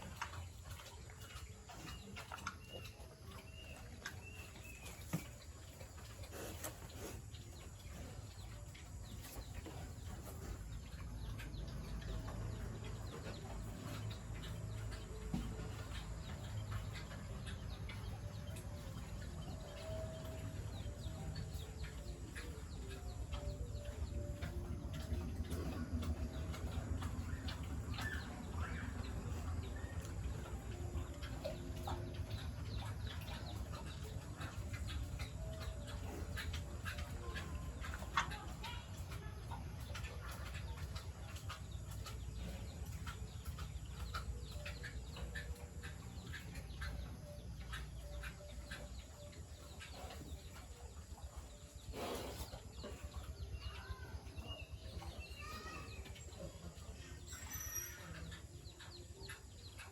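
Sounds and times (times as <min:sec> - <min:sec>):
chickens clucking: 0:00.0 - 0:59.9
steady low hum: 0:00.0 - 0:59.9
bird chirps: 0:00.1 - 0:59.9.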